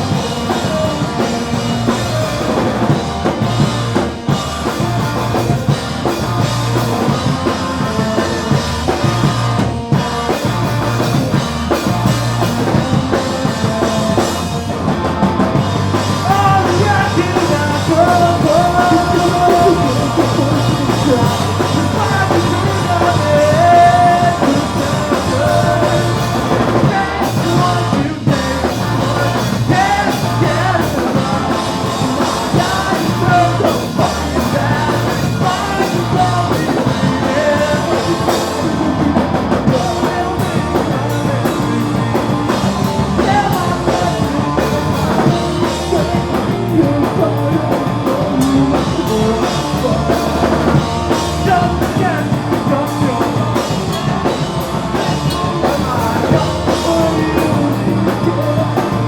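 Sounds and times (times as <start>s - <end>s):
person singing: 0.0s - 5.4s, 15.8s - 59.0s
fast drum kit: 0.0s - 59.0s
punk rock band playing: 0.0s - 59.0s.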